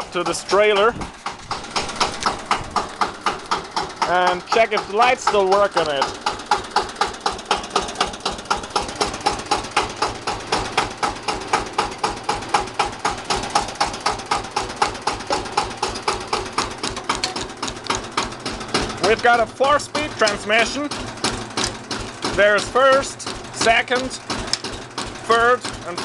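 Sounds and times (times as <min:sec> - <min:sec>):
tractor diesel engine chugging: 0:00.0 - 0:26.0.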